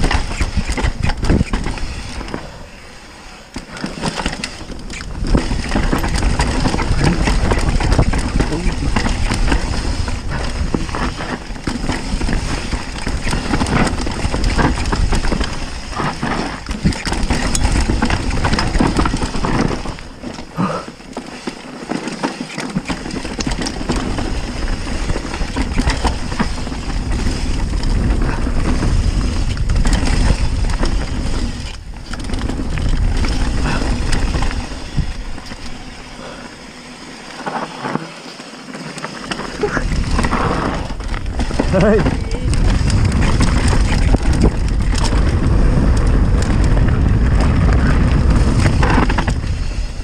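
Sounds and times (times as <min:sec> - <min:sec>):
wind rumble on microphone: 0:00.0 - 0:02.7, 0:04.4 - 0:20.7, 0:23.0 - 0:36.6, 0:39.3 - 0:50.0
bike rattling and knocking: 0:00.0 - 0:02.8, 0:03.4 - 0:50.0
bike tyres on dirt and stones: 0:00.0 - 0:50.0.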